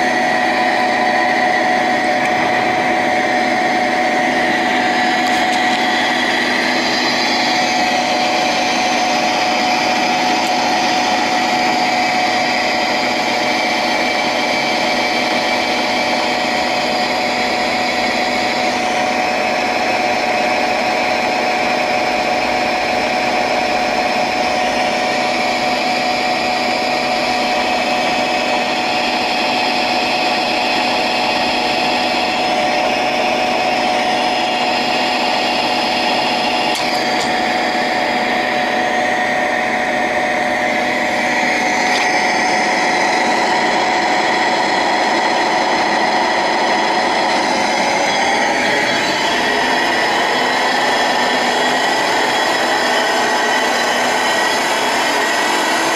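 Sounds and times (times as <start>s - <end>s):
milling machine whine: 0.0s - 55.9s.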